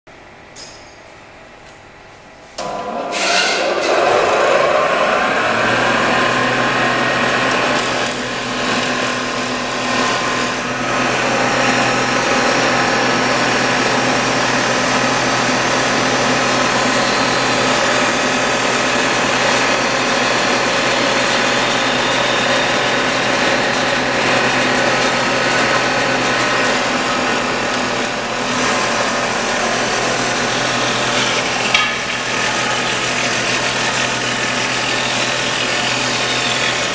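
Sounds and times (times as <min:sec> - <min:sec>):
machine motor whine and hum: 0:00.2 - 0:36.9.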